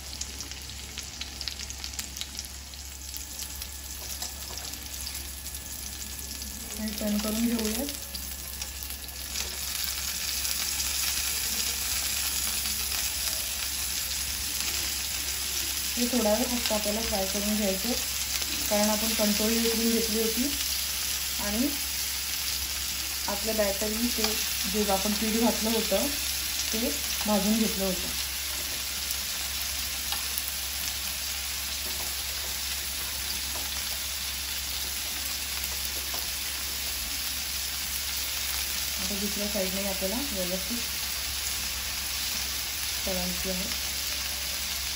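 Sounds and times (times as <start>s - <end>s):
oil sizzling: 0.0s - 44.9s.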